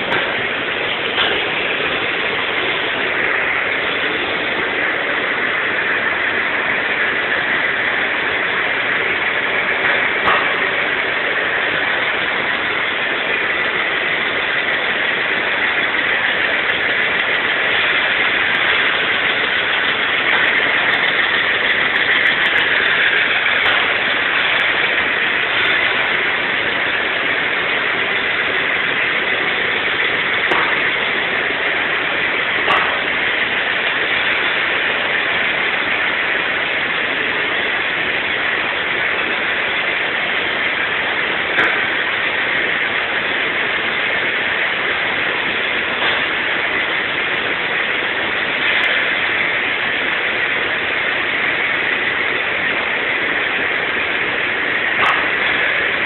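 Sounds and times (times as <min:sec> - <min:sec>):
industrial machinery hiss and hum: 0:00.0 - 0:56.0.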